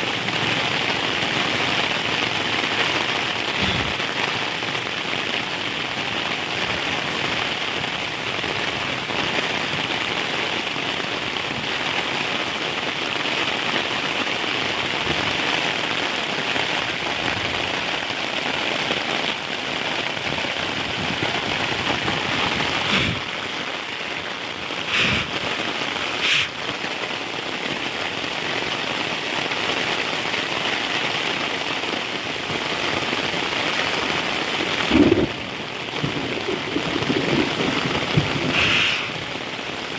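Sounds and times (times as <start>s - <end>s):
heavy rain falling: 0.0s - 39.9s
sharp raindrop splats: 0.0s - 39.9s.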